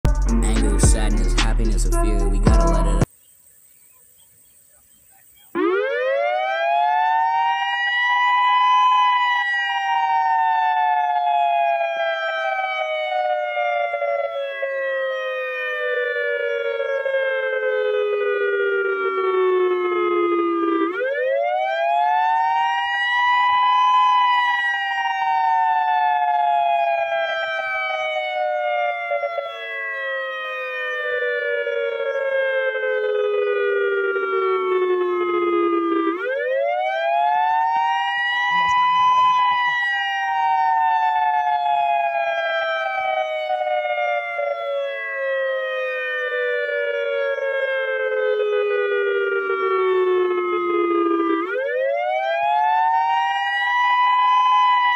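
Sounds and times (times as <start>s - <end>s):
wailing warning siren: 0.0s - 3.1s, 5.5s - 54.9s.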